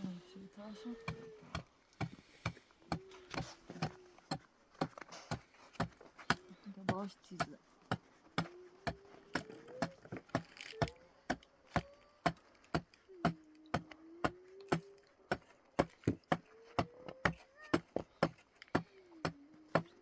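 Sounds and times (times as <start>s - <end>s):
blade chopping on a block: 1.0s - 20.0s.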